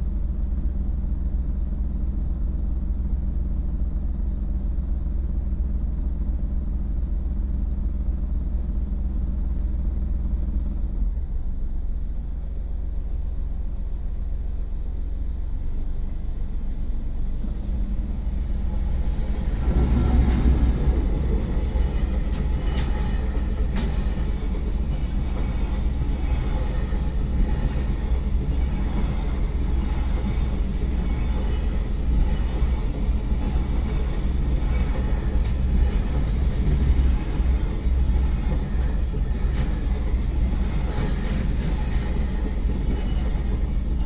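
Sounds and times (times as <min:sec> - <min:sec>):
freight train rumble: 0:00.0 - 0:44.0.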